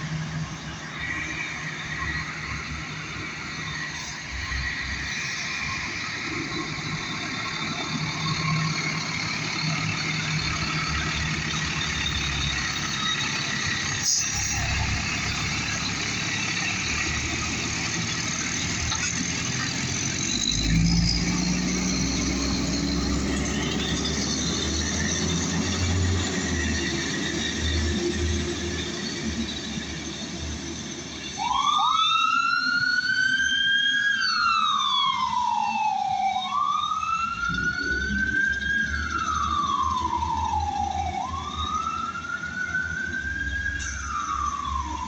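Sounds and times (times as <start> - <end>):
fire truck engine revving: 0.0 - 45.0.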